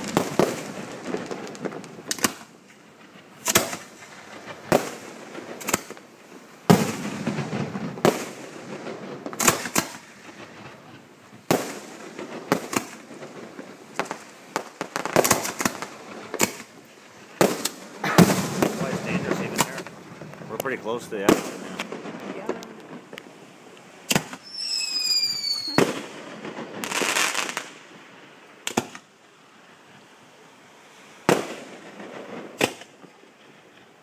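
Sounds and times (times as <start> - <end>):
fireworks bursting with echo: 0.0 - 29.2, 31.2 - 34.0.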